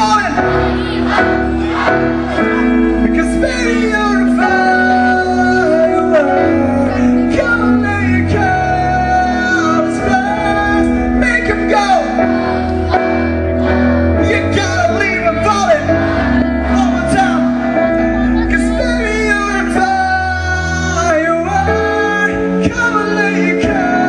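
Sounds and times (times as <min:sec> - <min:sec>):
live band playing pop song: 0:00.0 - 0:24.0.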